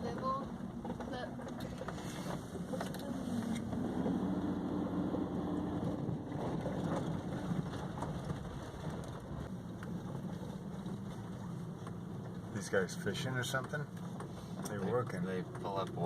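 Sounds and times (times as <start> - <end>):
car engine drone: 0.0 - 16.0
road rumble: 0.0 - 16.0.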